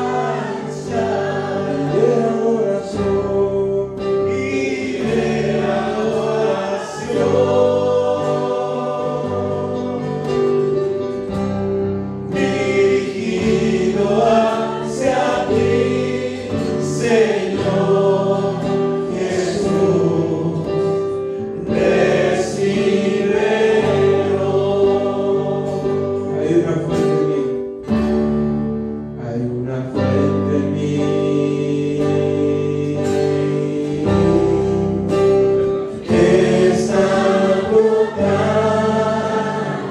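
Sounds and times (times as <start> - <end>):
choir singing a hymn: 0.0 - 27.5, 29.2 - 39.9.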